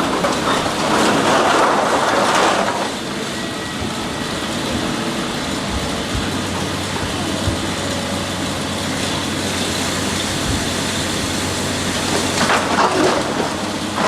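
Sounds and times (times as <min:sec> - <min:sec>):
heavy machinery running: 0:00.0 - 0:14.0.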